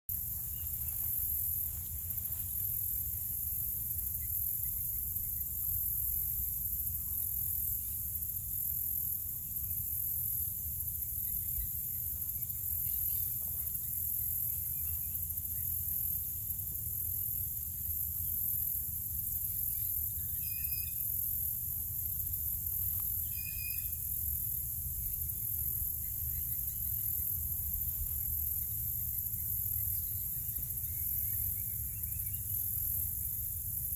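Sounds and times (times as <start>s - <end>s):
insects chirping: 0.1s - 33.9s
low steady rumble: 0.1s - 33.9s.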